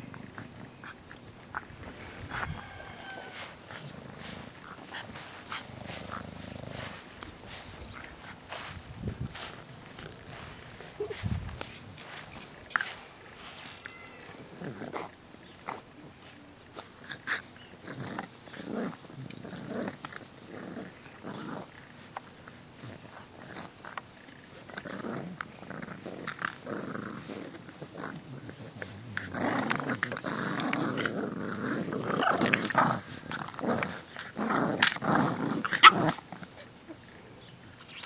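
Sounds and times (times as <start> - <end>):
puppies making dog noises: 0.0 - 38.0.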